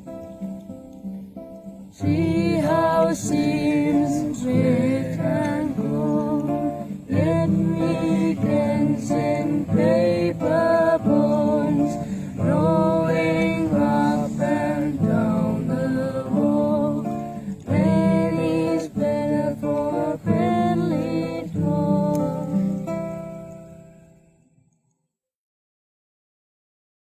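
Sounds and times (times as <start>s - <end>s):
acoustic guitar: 0.0s - 24.9s
person singing: 2.0s - 23.7s.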